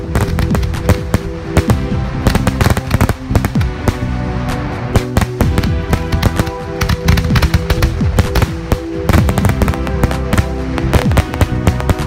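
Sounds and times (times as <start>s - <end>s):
background music: 0.0s - 12.0s
firework bangs: 0.0s - 12.0s
firework crackling: 0.0s - 12.0s.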